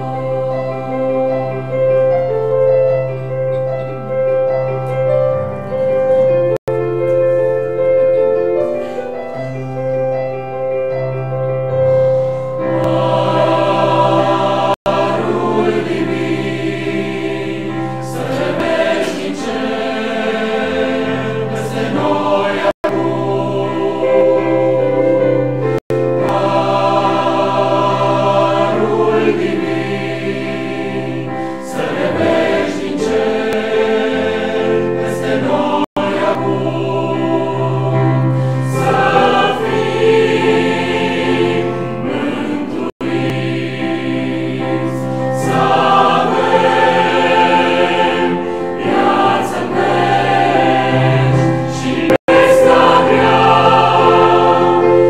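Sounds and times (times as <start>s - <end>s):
choir singing a hymn: 0.0s - 6.6s, 11.8s - 55.0s.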